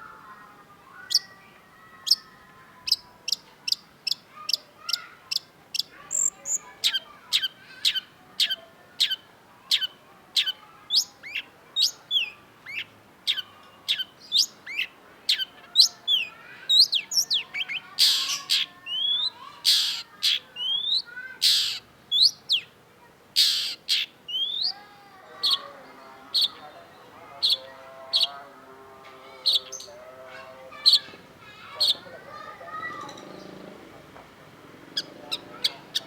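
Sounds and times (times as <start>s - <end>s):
harsh rasping bird calls: 0.0s - 22.8s, 23.4s - 36.0s.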